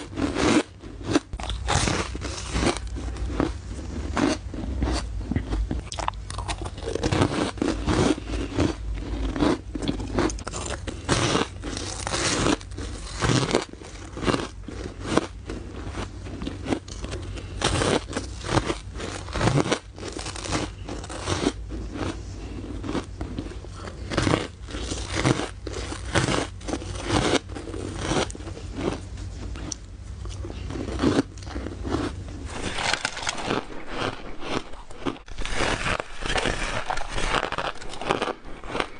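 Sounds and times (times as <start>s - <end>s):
ice crunching being chewed: 0.0s - 38.9s
steady low hum: 0.0s - 38.9s.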